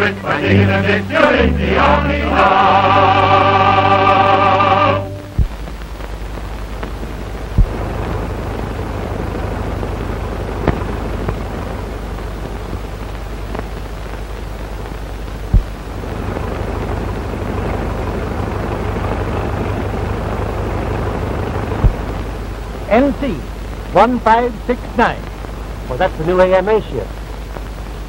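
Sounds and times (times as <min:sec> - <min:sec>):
biplane engine drone: 0:00.0 - 0:26.2
old film soundtrack hiss: 0:00.0 - 0:28.0
soundtrack crackle pops: 0:05.0 - 0:28.0.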